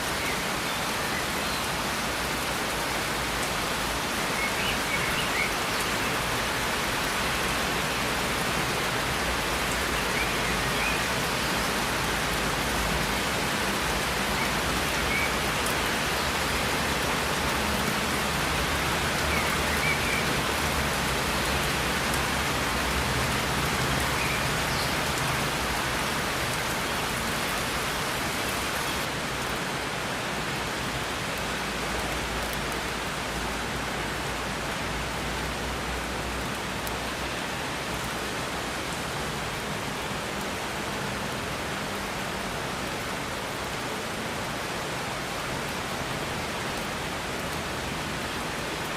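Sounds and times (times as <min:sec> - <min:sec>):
rain pattering on hard surfaces: 0:00.0 - 0:48.9.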